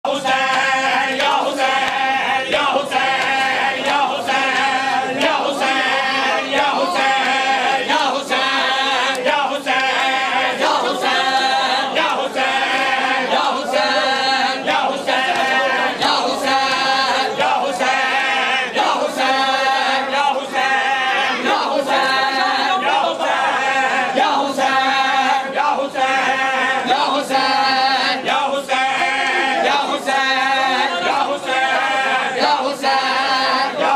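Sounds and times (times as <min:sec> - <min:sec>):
men chanting in unison: 0:00.0 - 0:33.9.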